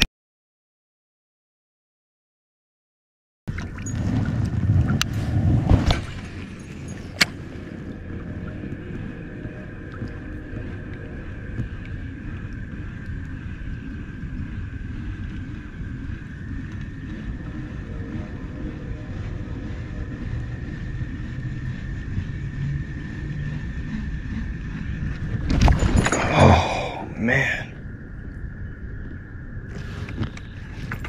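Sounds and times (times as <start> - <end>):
steady low rumble: 3.5 - 31.0
faint high hum: 3.6 - 31.0.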